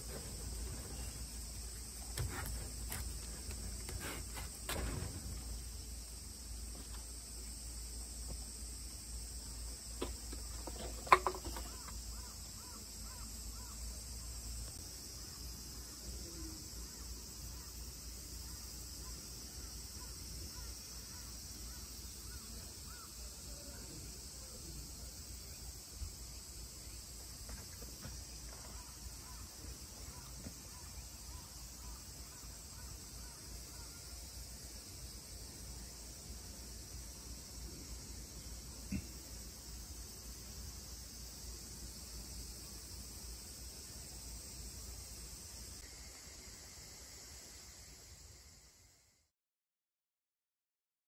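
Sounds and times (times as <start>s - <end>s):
high insect drone: 0.0s - 49.3s.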